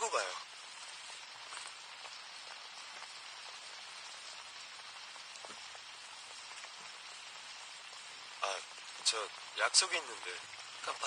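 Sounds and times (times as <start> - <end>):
faint raindrop ticks: 0.0 - 11.0
steady rain hiss: 0.0 - 11.0.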